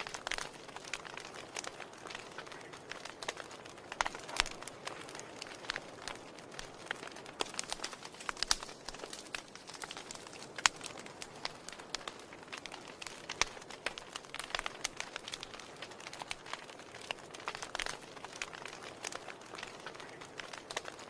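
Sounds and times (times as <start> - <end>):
soft steady hiss: 0.0 - 21.0
wood fire crackling: 0.0 - 21.0.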